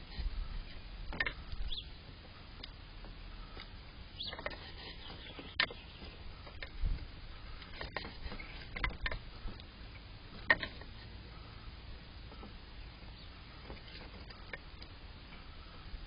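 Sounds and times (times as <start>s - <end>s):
low steady background: 0.0s - 16.0s.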